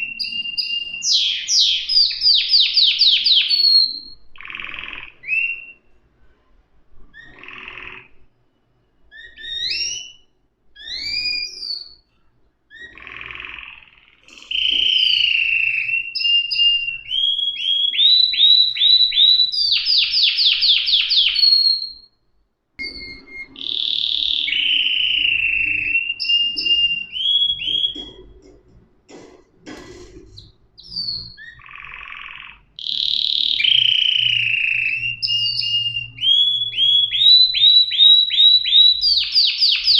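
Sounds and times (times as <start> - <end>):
canary singing: 0.0 - 6.0, 7.1 - 28.6, 29.9 - 39.9.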